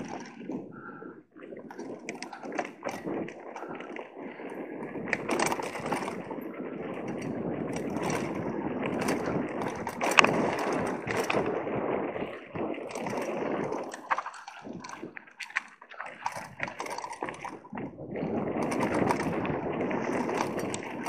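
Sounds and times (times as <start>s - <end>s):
bike rattling and knocking: 0.0s - 1.0s, 1.6s - 21.0s
bike tyres on loose dirt: 0.0s - 21.0s.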